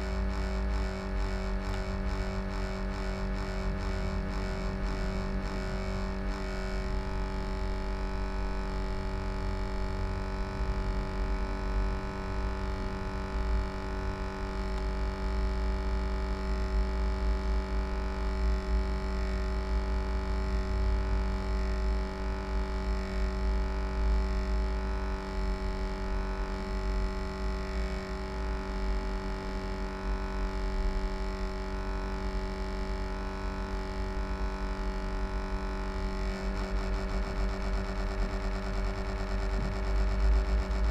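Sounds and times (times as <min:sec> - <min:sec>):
laptop cooling fan humming: 0:00.0 - 0:40.9.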